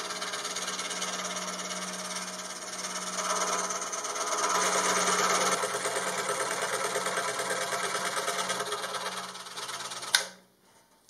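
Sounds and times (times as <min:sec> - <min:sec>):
scroll saw cutting wood: 0:00.0 - 0:10.4.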